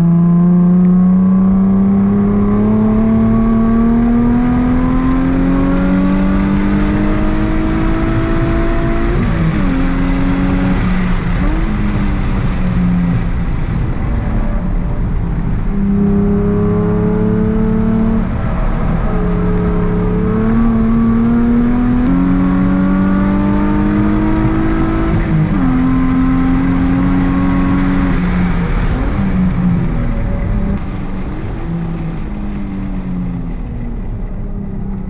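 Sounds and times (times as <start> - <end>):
car engine pulling hard: 0.0 - 35.0.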